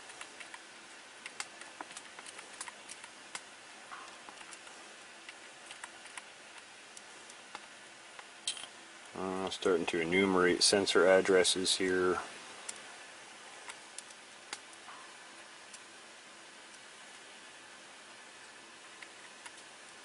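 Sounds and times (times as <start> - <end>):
steady low hiss: 0.0 - 20.0.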